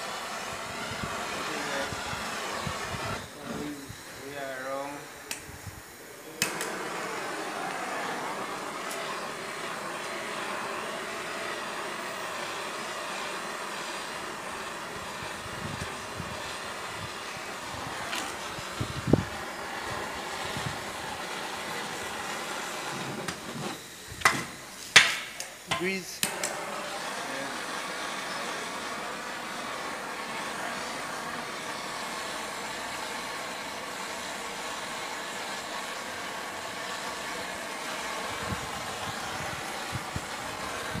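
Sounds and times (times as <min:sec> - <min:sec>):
propane torch hissing: 0:00.0 - 0:41.0.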